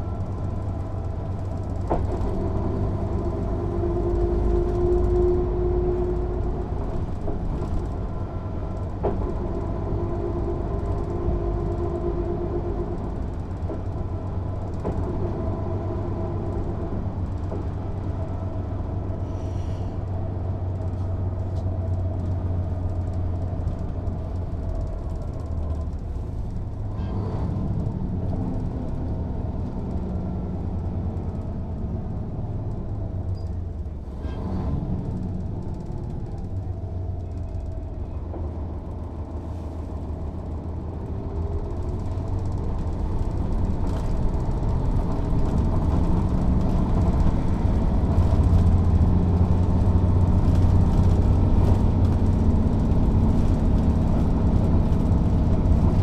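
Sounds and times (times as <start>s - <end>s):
bus diesel engine droning: 0.0s - 56.0s
road rumble: 0.0s - 56.0s.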